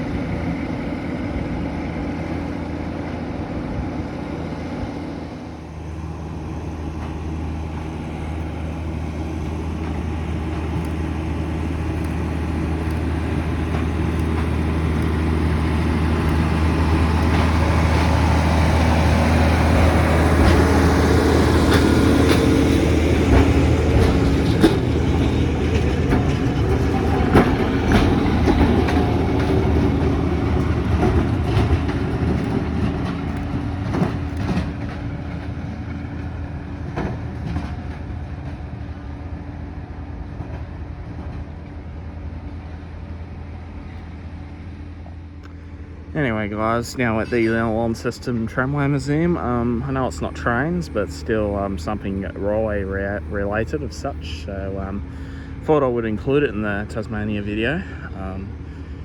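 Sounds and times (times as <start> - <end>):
tram wheels clicking over rail joints: 0.0 - 44.2, 45.0 - 59.0
tram low hum: 0.0 - 59.0.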